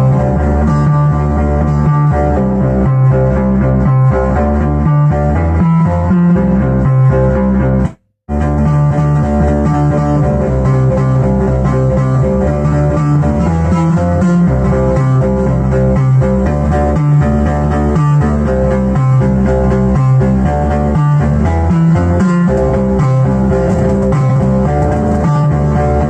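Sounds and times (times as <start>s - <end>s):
bass-heavy synthesizer line: 0.0s - 26.0s.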